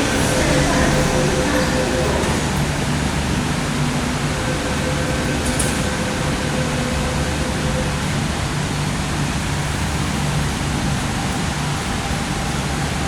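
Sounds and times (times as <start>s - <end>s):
train rumble and hiss: 0.0s - 13.0s.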